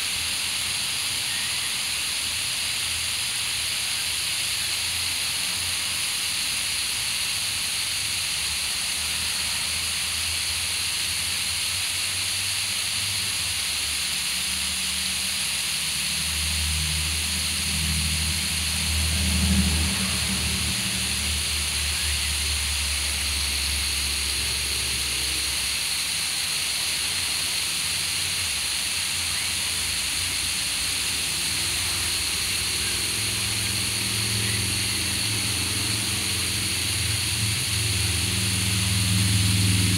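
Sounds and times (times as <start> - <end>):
hose spray hissing on lawn: 0.0 - 39.9.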